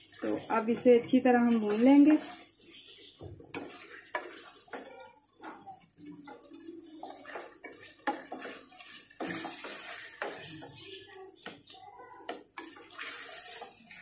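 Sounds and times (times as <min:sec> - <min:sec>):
meat sizzling in oil: 0:00.0 - 0:14.0
metal spatula scraping pot: 0:00.1 - 0:11.1, 0:12.2 - 0:14.0.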